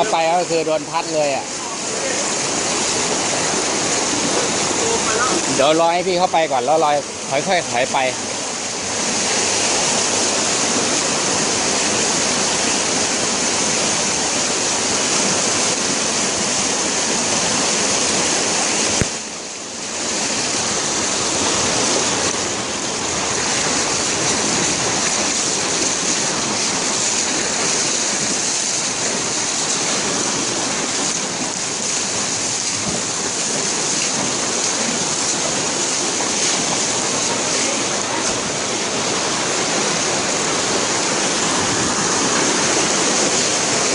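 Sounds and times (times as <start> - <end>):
floodwater rushing: 0.0 - 43.9
torrential rain: 0.0 - 43.9.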